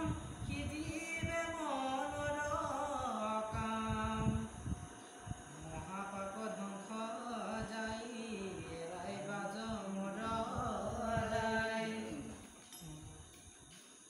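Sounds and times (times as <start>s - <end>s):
man chanting: 0.0s - 4.7s, 5.4s - 13.4s.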